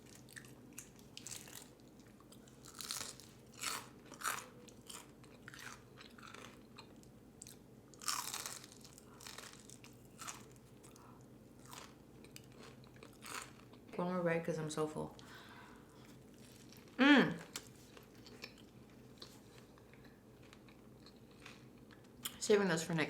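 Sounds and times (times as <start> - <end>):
person chewing crunchy food: 0.0 - 13.9, 15.9 - 22.3.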